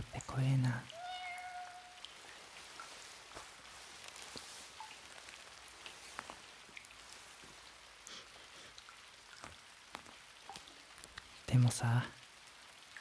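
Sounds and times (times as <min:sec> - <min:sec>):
drips on pavement: 0:00.0 - 0:13.0
faint steady rain: 0:00.0 - 0:13.0.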